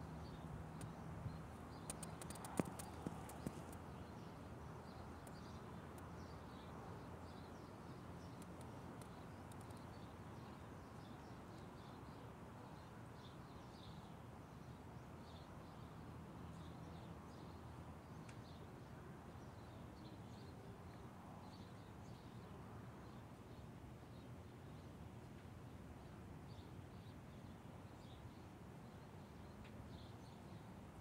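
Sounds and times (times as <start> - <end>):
small birds chirping: 0.0 - 25.5, 26.4 - 31.0
low steady background noise: 0.0 - 31.0.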